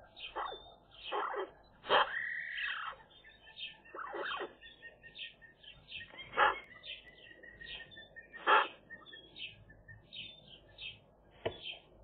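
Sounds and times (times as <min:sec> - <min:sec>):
high bird chirps: 0:00.0 - 0:11.9
harsh bird calls: 0:00.0 - 0:12.0.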